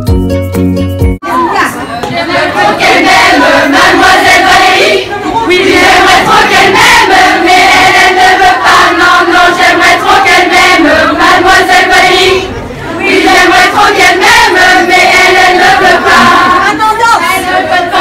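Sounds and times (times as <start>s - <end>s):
crowd singing in unison: 1.9s - 18.0s.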